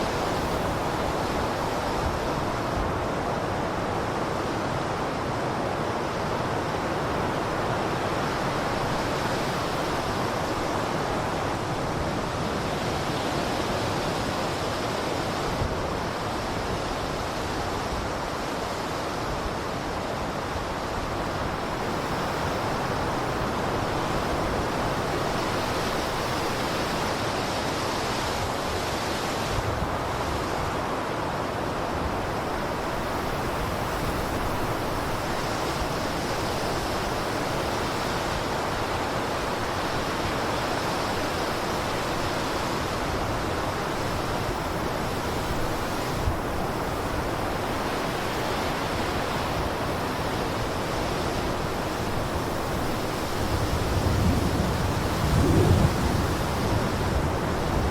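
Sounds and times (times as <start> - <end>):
blizzard wind blowing: 0.0 - 57.9.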